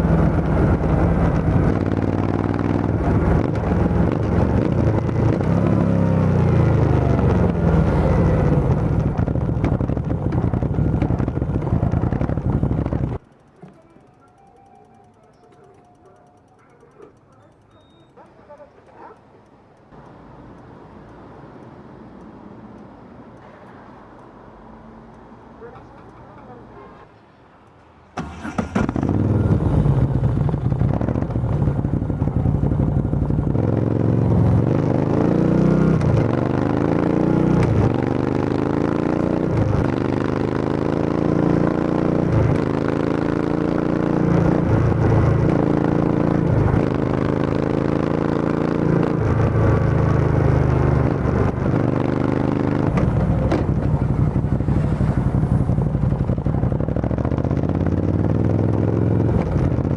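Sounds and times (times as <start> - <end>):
motorcycle engine revving: 0.0 - 18.3, 28.2 - 59.9.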